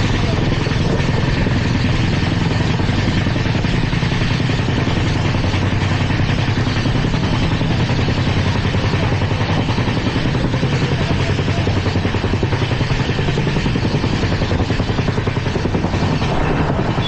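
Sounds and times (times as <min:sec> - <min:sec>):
fast rattle: 0:00.0 - 0:17.0
train wheels rumbling on rail: 0:00.0 - 0:17.0.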